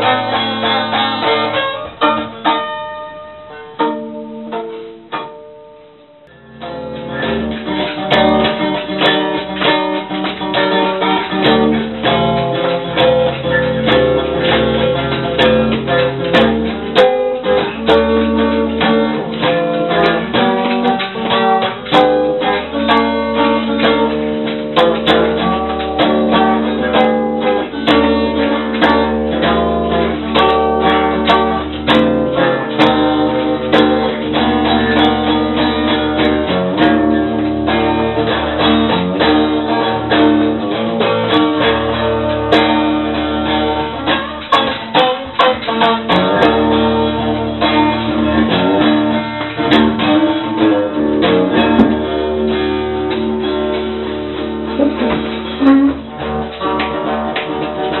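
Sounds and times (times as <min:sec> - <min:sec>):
plucked acoustic guitar music: 0:00.0 - 0:58.0.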